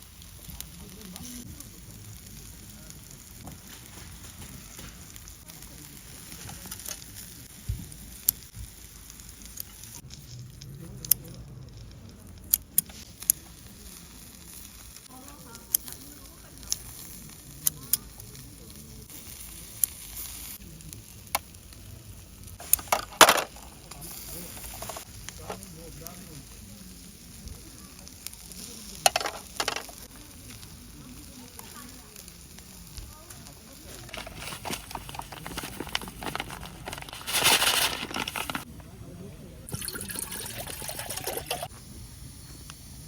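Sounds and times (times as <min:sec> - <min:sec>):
fire popping and crackling: 0:00.0 - 0:38.9
food sizzling over fire: 0:00.0 - 0:43.0.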